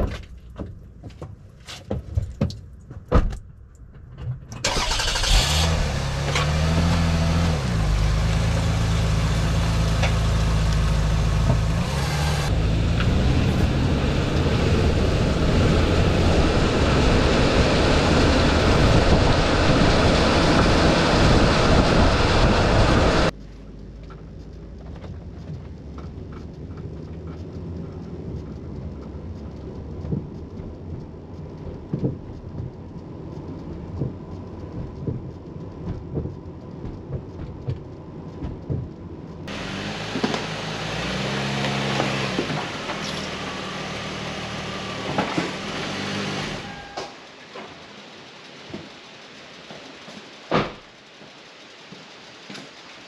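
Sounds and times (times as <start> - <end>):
road noise inside cabin: 0.0 - 53.0
tire and wind noise: 0.0 - 53.0
car engine: 2.6 - 53.0.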